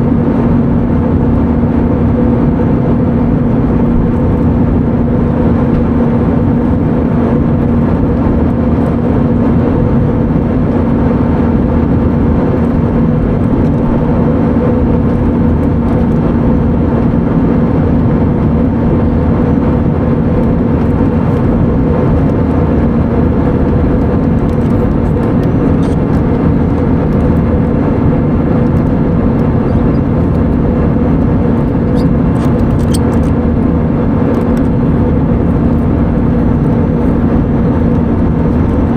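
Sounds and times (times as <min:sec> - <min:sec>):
aircraft cabin engine roar: 0:00.0 - 0:38.9
constant low hum: 0:00.0 - 0:38.9.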